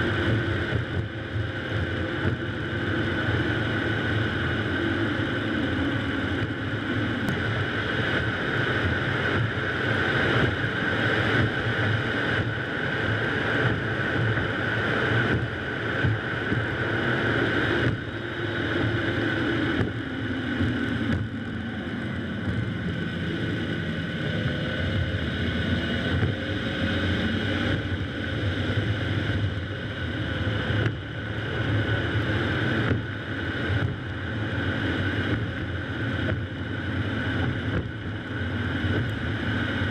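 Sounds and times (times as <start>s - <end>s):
car engine humming: 0.0s - 39.9s.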